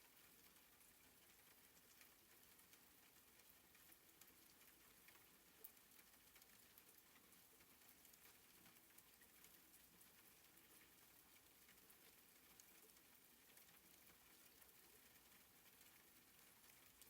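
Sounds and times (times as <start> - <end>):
soft rain patter: 0.0 - 17.0.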